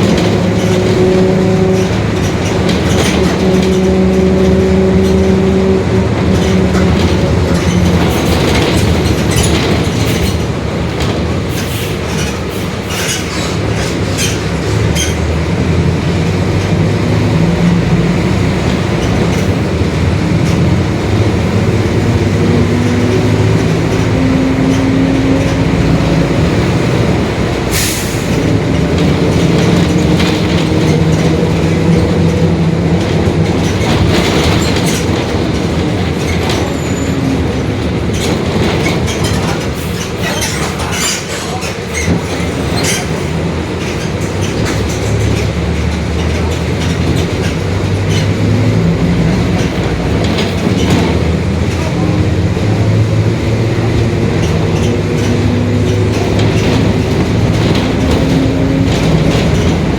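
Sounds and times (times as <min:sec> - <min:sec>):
bus diesel engine running: 0:00.0 - 0:59.9
knocks and rattles from bus body: 0:00.0 - 0:59.9.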